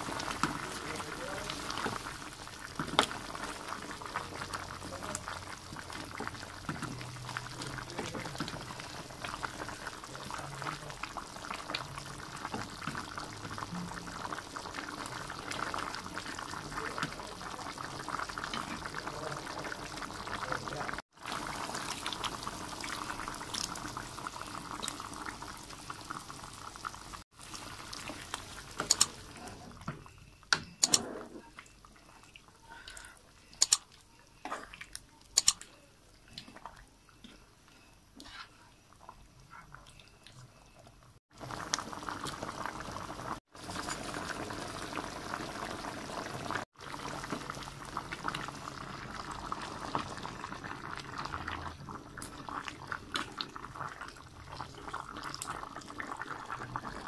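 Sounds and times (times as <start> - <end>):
curry bubbling: 0.0 - 30.4, 31.1 - 57.0.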